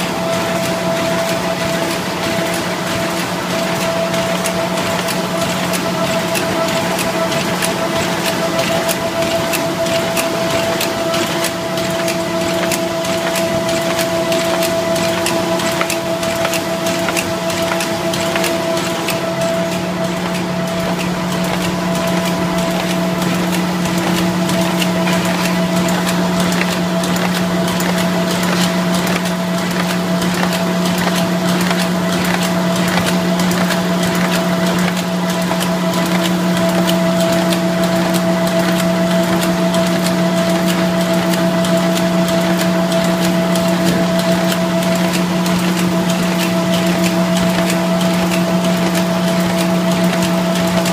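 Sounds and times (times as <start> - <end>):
machine hum: 0.0 - 50.9
fast clicking and rattling: 0.6 - 50.9.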